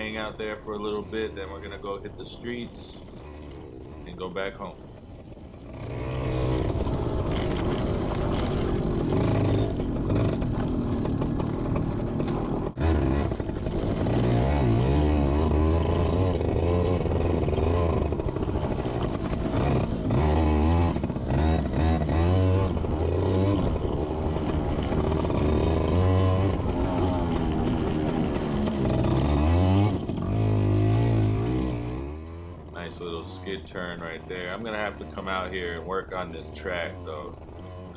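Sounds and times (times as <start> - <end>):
two-stroke motorcycle engine revving: 0.0 - 37.9.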